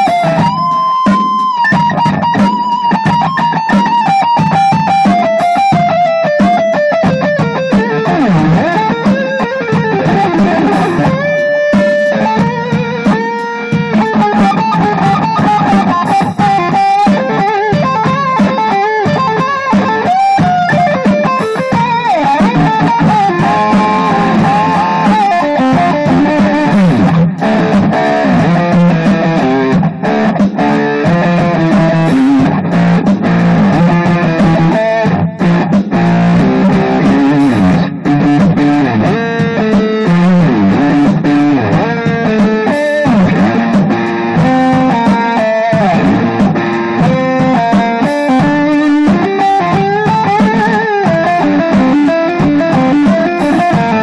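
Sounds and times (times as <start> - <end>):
electric guitar riffs: 0.0 - 54.0.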